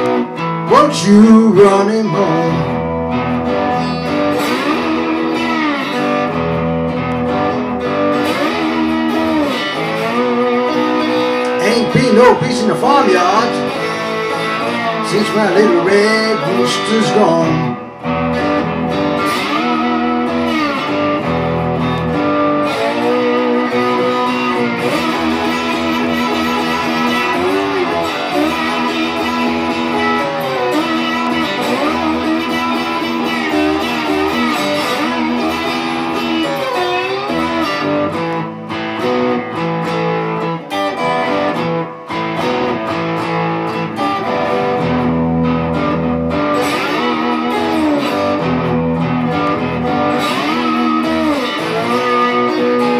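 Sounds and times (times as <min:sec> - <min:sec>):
electric guitar playing blues: 0:00.0 - 0:52.9.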